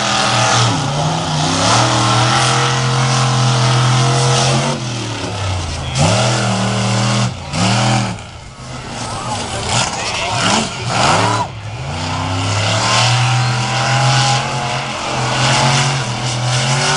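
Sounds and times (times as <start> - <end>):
monster truck engine revving: 0.0 - 16.9.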